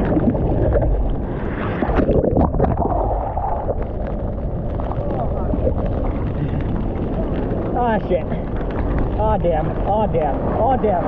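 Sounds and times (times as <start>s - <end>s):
water rushing and sloshing: 0.0s - 11.0s
water splashing: 0.0s - 11.0s
wind buffeting microphone: 0.0s - 11.0s.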